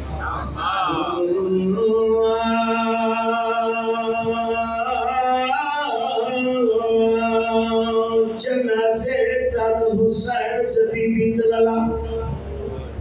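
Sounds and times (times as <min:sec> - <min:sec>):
man chanting through amplifier: 0:00.0 - 0:13.0.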